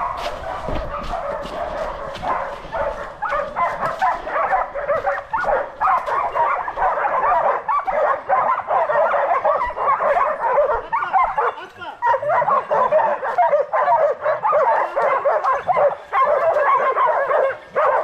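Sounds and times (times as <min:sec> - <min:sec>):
hunting dogs yelping and baying: 0:00.0 - 0:18.0.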